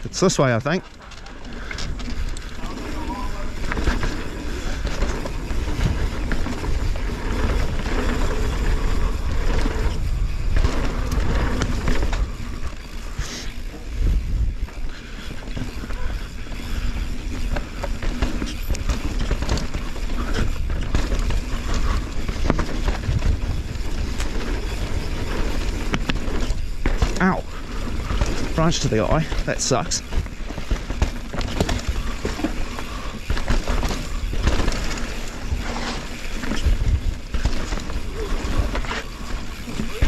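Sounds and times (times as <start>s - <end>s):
bike knocks and rattles: 0.0s - 40.0s
bike tyres rumbling on dirt: 0.0s - 40.0s.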